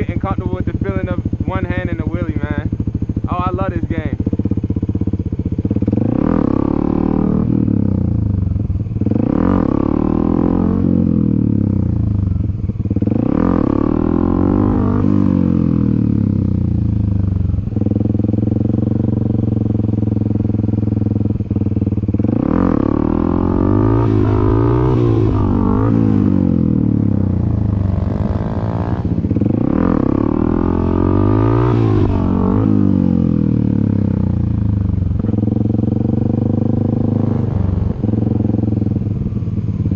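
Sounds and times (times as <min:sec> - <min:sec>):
dirt bike engine revving: 0:05.7 - 0:08.4, 0:09.0 - 0:39.4.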